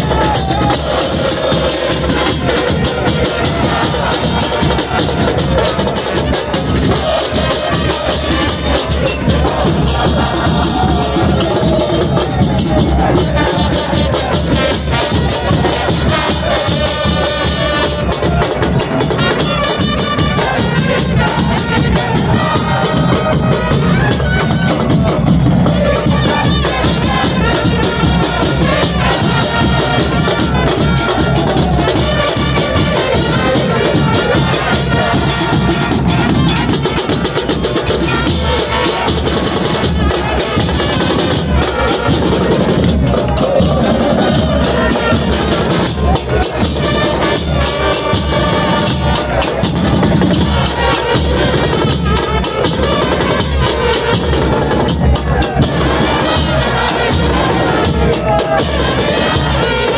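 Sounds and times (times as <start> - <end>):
bass drums beating: 0.0 - 59.9
crowd singing a chant: 0.0 - 59.9
trumpets playing: 0.0 - 59.9.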